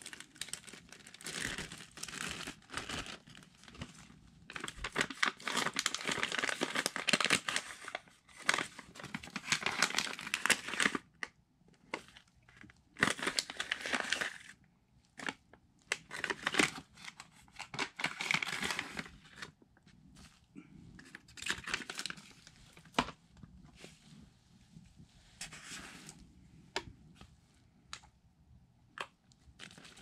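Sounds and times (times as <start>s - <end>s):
rustling and crinkling: 0.0s - 11.0s, 15.1s - 28.0s, 28.9s - 30.0s.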